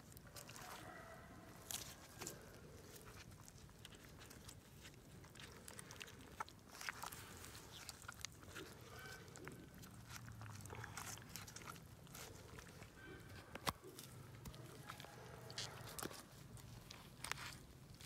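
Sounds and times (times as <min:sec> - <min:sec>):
faint wet squelching: 0:00.0 - 0:18.0.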